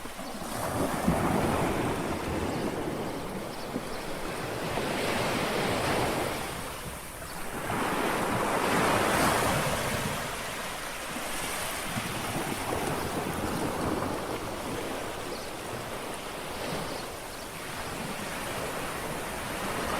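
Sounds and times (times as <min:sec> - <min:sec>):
sea waves lapping on shore: 0:00.0 - 0:19.9
steady rush of water: 0:00.0 - 0:19.9.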